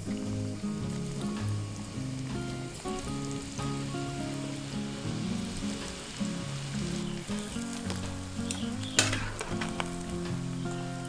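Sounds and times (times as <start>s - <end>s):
deep-frying sizzle in oil: 0.0s - 11.0s
instrumental music: 0.0s - 11.0s.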